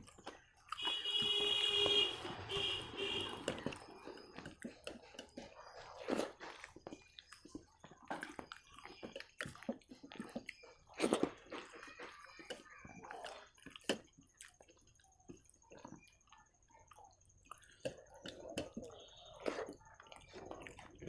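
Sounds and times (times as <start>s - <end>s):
squishy sticky food mixing by hand: 0.0s - 21.0s
wet chewing: 0.0s - 21.0s.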